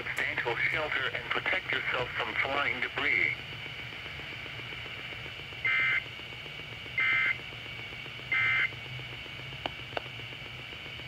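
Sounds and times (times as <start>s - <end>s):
buzzy data tone bursts: 0.0s - 11.0s.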